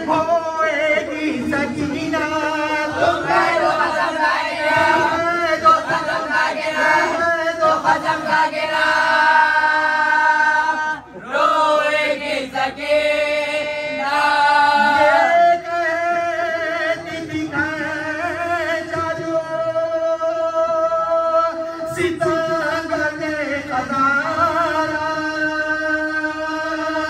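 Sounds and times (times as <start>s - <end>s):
man singing a lament: 0.0s - 12.1s, 12.8s - 27.0s.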